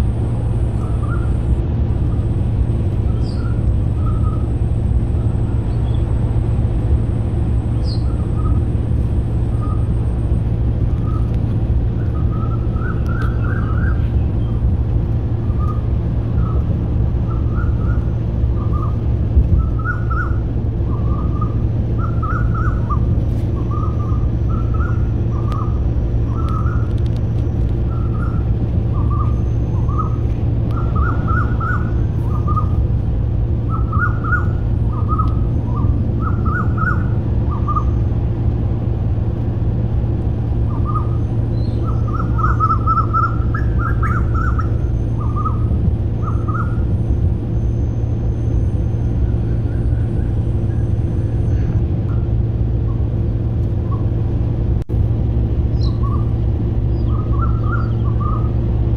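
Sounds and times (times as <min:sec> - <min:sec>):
steady low rumble: 0:00.0 - 0:58.9
birds chirping: 0:00.1 - 0:14.7, 0:15.3 - 0:32.9, 0:33.6 - 0:38.2, 0:40.6 - 0:53.2, 0:55.7 - 0:58.7.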